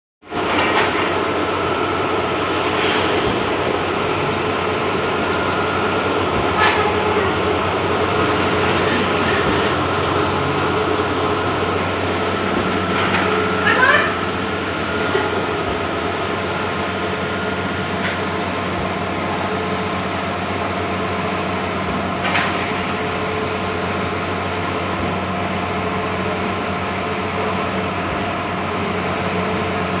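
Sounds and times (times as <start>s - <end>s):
printer mechanical whir and hum: 0.3s - 30.0s.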